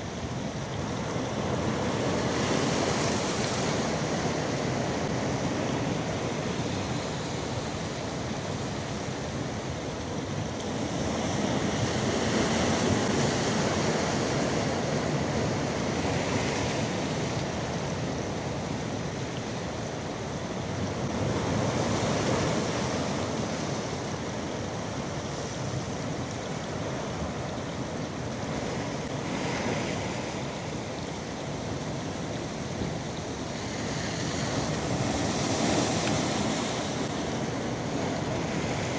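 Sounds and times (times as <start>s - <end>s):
sea surf on rocky shore: 0.0s - 38.9s.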